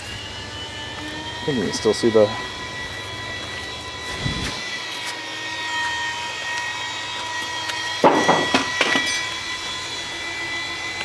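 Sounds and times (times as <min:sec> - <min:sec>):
mechanical whine: 0:00.0 - 0:11.0.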